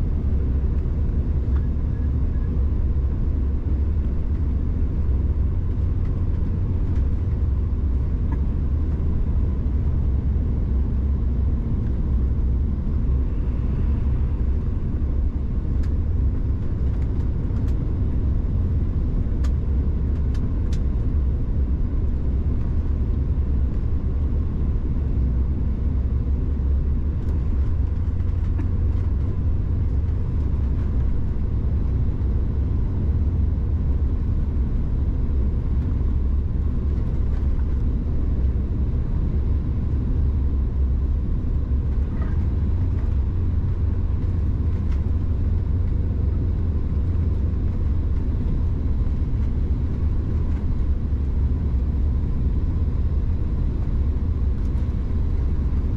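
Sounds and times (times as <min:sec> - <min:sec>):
jet cabin rumble: 0:00.0 - 0:55.9.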